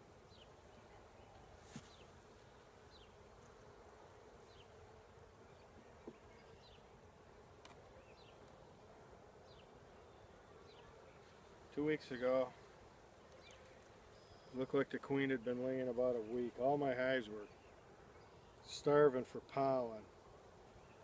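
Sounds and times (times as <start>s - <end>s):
honeybees humming: 0.0s - 21.0s.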